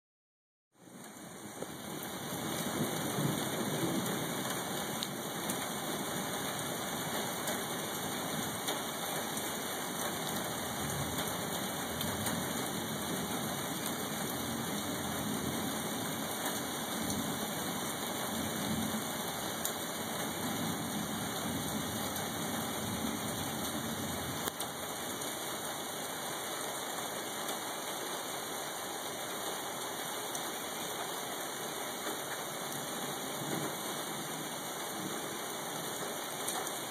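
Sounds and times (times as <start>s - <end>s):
light rain falling: 0.8s - 36.9s.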